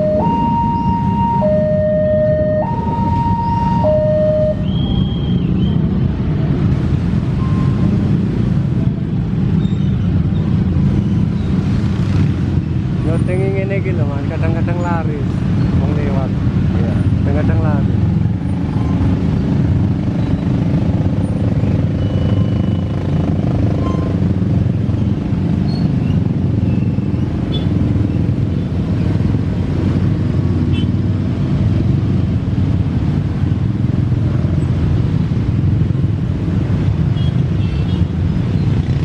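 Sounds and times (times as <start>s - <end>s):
engines rumbling: 0.0s - 39.0s.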